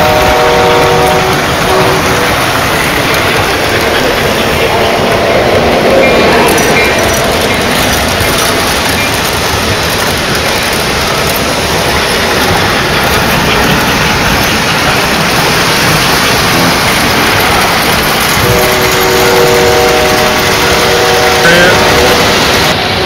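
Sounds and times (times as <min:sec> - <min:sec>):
model train wheels rumbling: 0:00.0 - 0:23.0.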